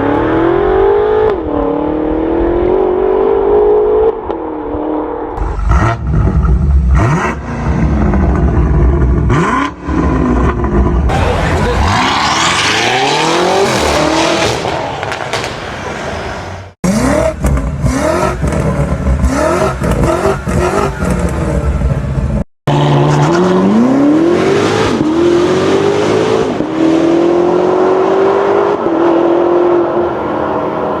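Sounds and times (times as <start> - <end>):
car engine revving: 5.4 - 31.0.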